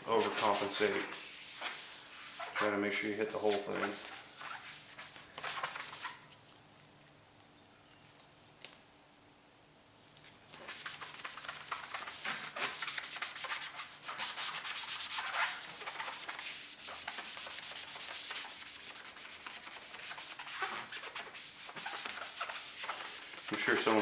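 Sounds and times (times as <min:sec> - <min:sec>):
foam sponge rubbing a wheel: 0:00.0 - 0:06.3, 0:10.7 - 0:24.0.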